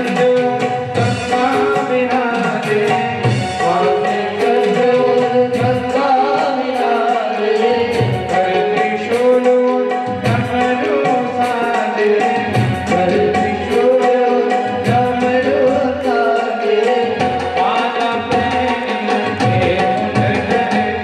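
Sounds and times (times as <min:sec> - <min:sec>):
held instrumental tones: 0:00.0 - 0:21.0
person singing devotional song: 0:00.0 - 0:21.0.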